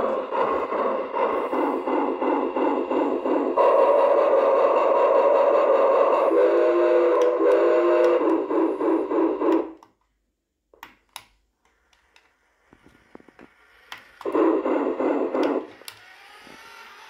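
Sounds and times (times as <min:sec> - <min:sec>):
toy train buzzy chugging: 0:00.0 - 0:09.8, 0:11.7 - 0:17.0.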